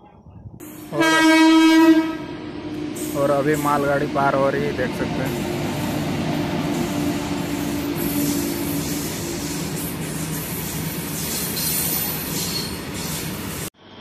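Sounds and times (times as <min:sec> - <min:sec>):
electric locomotive humming: 0:00.0 - 0:14.0
steel wheels rumbling on rails: 0:00.6 - 0:13.7.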